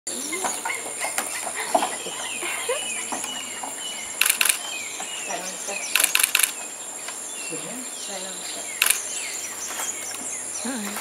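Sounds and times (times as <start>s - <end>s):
birds chirping and whistling: 0.1s - 11.0s.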